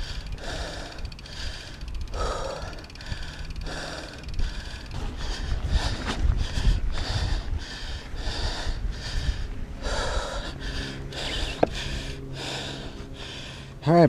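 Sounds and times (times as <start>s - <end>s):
person panting hard: 0.0s - 13.8s
low rumble: 0.0s - 14.0s
low steady hum: 0.0s - 14.0s.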